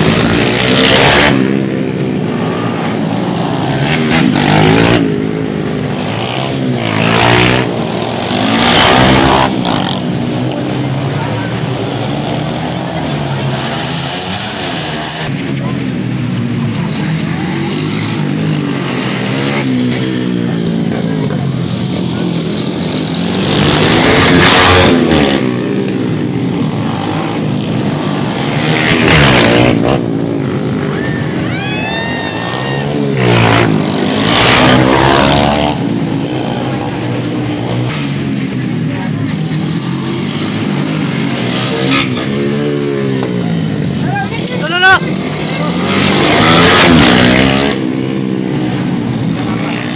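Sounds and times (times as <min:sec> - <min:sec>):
motorcycles passing close: 0:00.0 - 0:49.9
motorcycles revving: 0:00.0 - 0:49.9.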